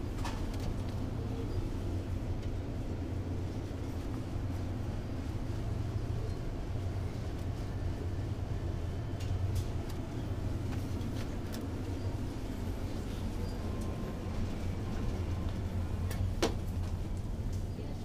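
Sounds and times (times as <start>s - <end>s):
supermarket background hum: 0.0s - 18.0s.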